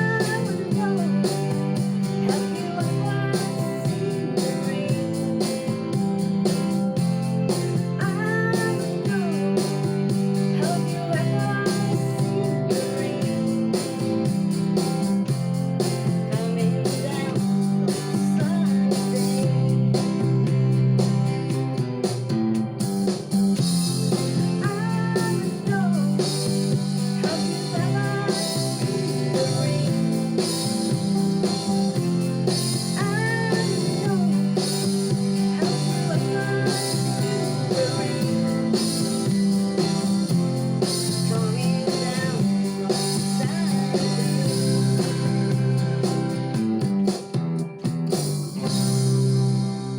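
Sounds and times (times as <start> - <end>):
person singing: 0.0 - 14.2, 16.0 - 20.8, 24.0 - 46.5
bass line: 0.0 - 49.9
guitar music: 0.0 - 49.9.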